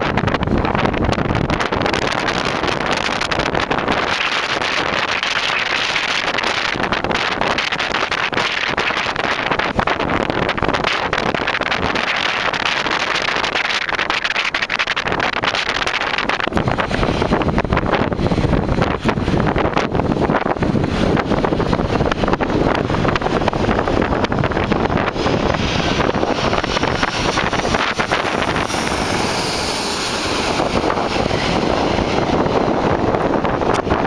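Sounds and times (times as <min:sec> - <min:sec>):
distant jet roar: 0:00.0 - 0:34.0
wind buffeting microphone: 0:00.0 - 0:34.0.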